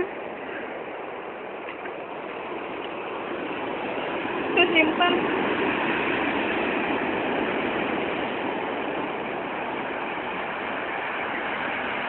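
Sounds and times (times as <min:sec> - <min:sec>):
surf breaking on sandy beach: 0:00.0 - 0:12.0.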